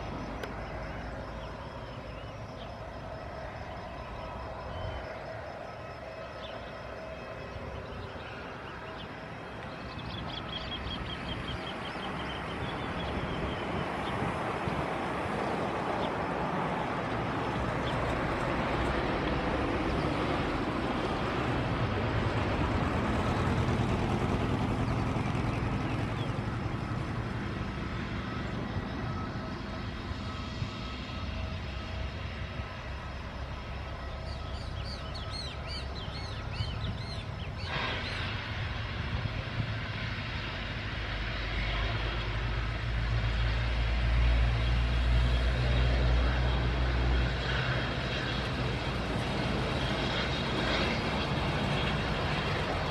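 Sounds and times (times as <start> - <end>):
jet engines taxiing: 0.0 - 52.9.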